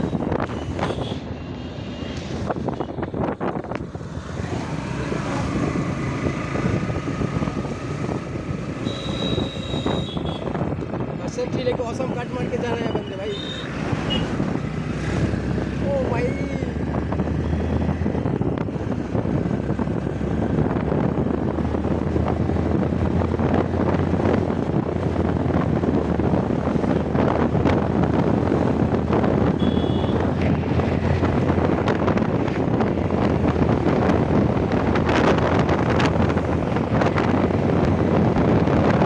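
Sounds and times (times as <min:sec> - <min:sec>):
road noise: 0:00.0 - 0:39.0
wind buffeting microphone: 0:00.0 - 0:39.0.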